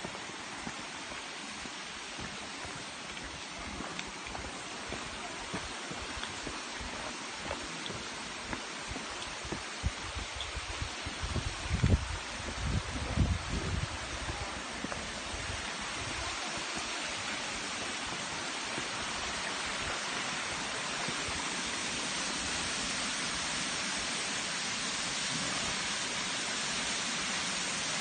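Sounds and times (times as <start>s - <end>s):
waterfall rushing water: 0.0s - 28.0s.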